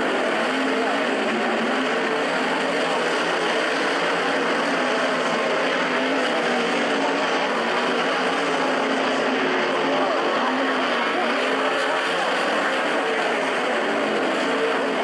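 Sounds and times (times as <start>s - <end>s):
race car engines wavering: 0.0s - 15.0s
track noise: 0.0s - 15.0s.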